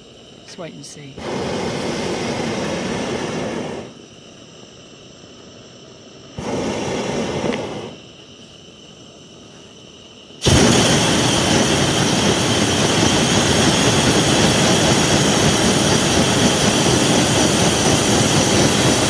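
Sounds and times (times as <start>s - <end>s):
propane burner blast: 0.0s - 19.0s.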